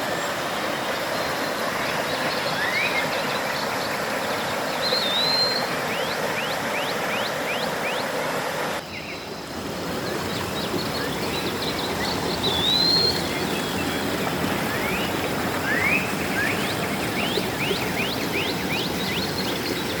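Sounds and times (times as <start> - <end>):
birds calling: 0.0 - 20.0
stream water rushing: 0.0 - 20.0.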